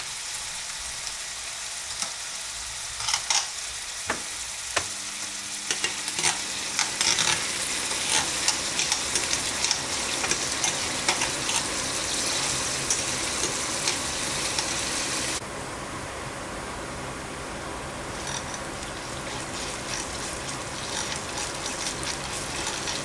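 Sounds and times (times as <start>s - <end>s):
onion sizzling in oil: 0.0s - 15.4s, 18.1s - 23.0s.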